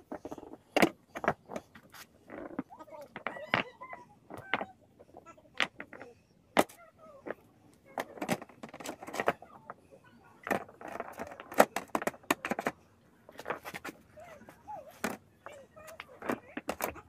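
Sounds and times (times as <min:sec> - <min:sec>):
hard objects knocking and clattering: 0:00.0 - 0:17.0.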